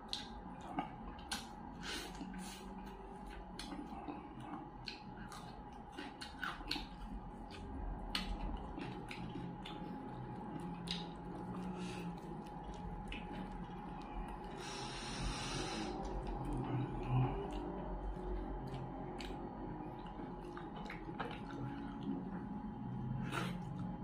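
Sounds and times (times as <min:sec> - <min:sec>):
chewing with mouth clicks: 0:00.0 - 0:24.0.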